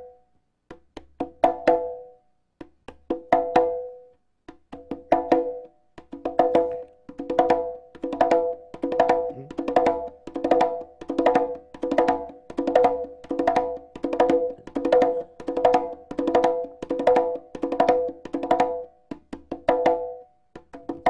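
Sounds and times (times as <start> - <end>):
conga drum played by hand: 0.7 - 21.0.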